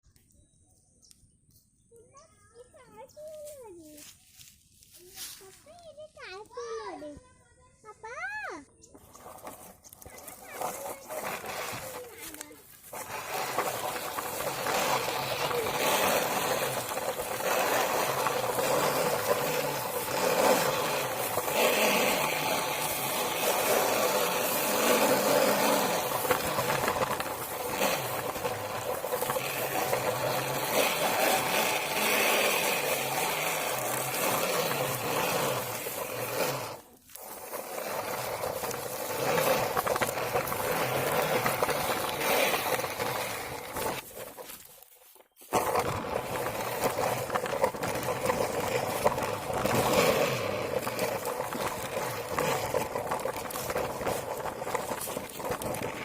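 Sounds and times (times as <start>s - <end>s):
toy vehicle motor whirring: 1.9s - 56.0s.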